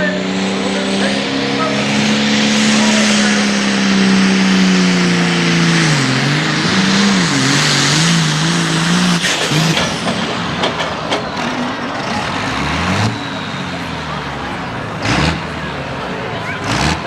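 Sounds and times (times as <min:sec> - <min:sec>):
tractor diesel engine at full throttle: 0:00.0 - 0:17.0.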